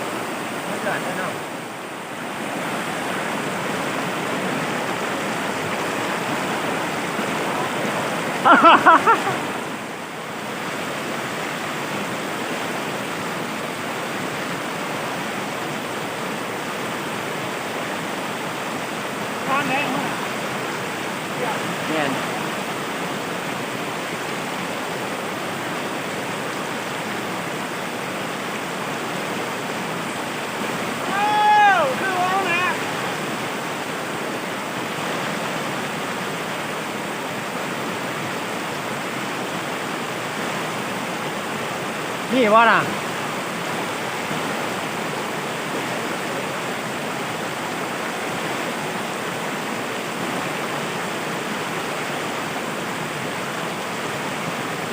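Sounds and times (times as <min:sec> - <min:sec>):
river rapids rushing: 0:00.0 - 0:54.9.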